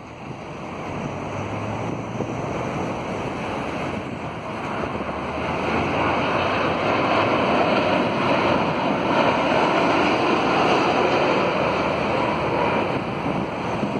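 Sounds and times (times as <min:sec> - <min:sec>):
jet airliner passing overhead: 0:00.0 - 0:13.9.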